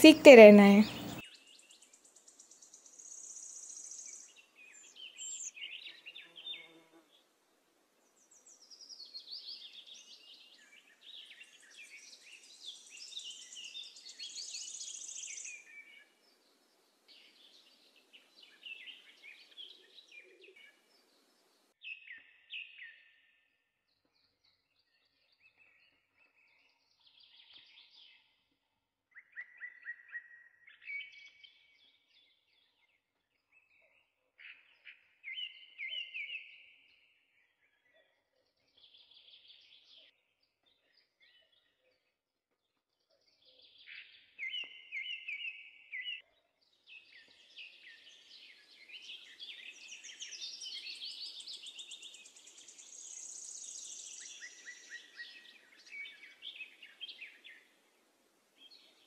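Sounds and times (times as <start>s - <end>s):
small birds chirping and trilling: 0.4s - 6.9s, 8.1s - 23.3s, 23.9s - 28.5s, 29.2s - 41.9s, 43.0s - 57.8s.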